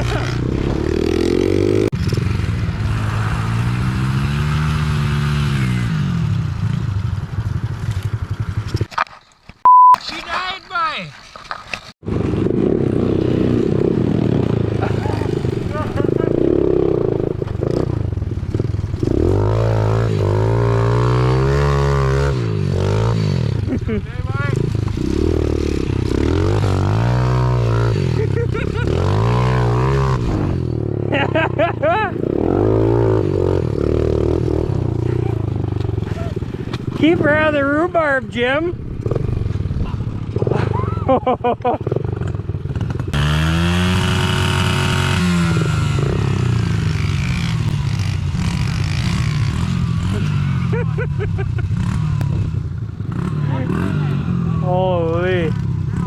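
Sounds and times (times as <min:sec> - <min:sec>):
pit bike engine at high revs: 0:00.0 - 0:08.7, 0:12.1 - 0:40.9, 0:41.6 - 0:56.0.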